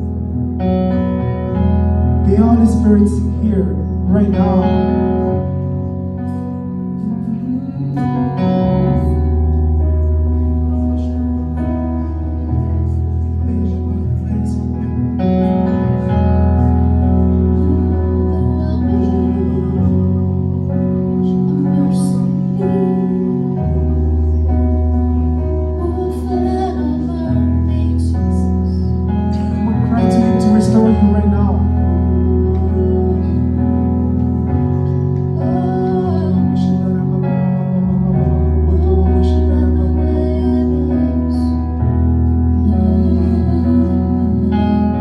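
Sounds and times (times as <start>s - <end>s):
band playing slow instrumental: 0.0s - 45.0s.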